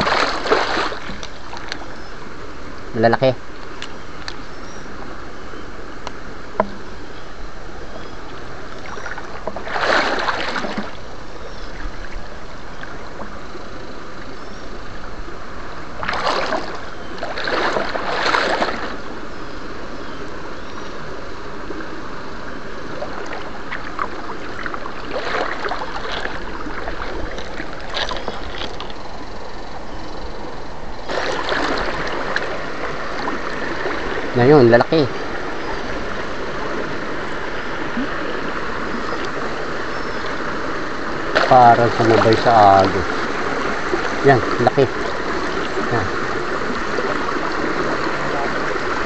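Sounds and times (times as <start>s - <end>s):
water splashing and sloshing: 0.0s - 5.3s, 6.0s - 20.0s, 20.8s - 49.0s.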